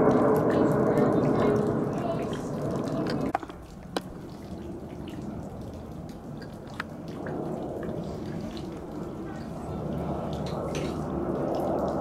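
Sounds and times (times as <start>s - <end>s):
jet airliner rumble overhead: 0.0s - 12.0s.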